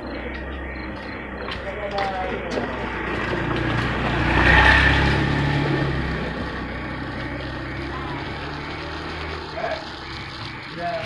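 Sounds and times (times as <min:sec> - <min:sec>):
engine running low hum: 0:00.0 - 0:11.0.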